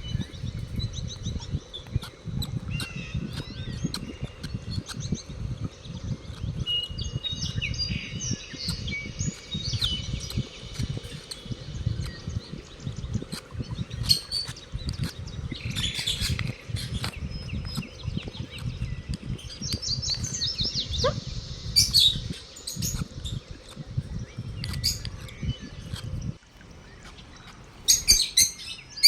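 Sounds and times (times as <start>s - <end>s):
low rumble: 0.0s - 26.4s
lovebirds chirping: 0.0s - 29.0s.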